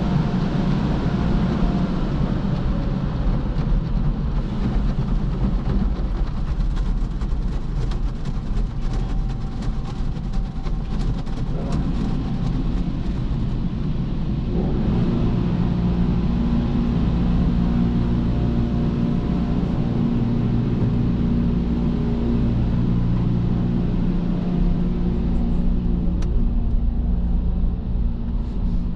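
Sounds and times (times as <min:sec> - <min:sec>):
car wash machinery rumble: 0:00.0 - 0:28.9
steady low hum: 0:00.0 - 0:28.9.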